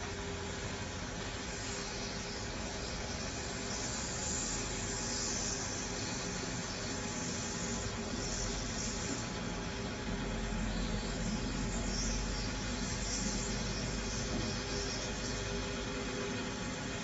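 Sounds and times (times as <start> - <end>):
hot air station hissing: 0.0 - 17.0.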